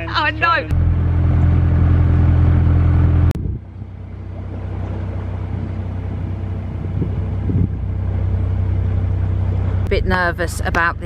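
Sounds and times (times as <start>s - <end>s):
boat diesel engine humming: 0.0s - 11.0s
quieter engine hum: 0.0s - 11.0s.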